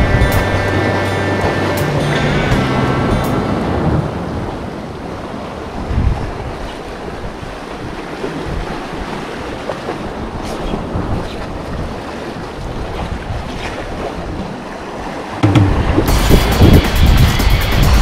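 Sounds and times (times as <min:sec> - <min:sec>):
sea surf washing on shore: 0:00.0 - 0:18.0
wind buffeting microphone: 0:00.0 - 0:18.0.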